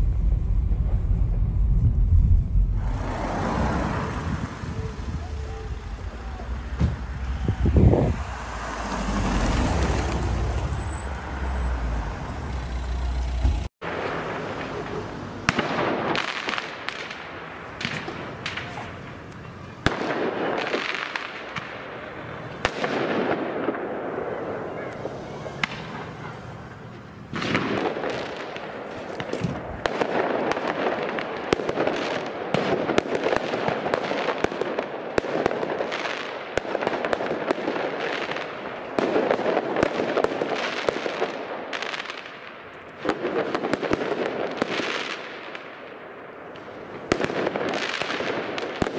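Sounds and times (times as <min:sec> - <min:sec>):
fireworks cracking and banging: 0:00.0 - 0:11.2, 0:13.3 - 0:48.9.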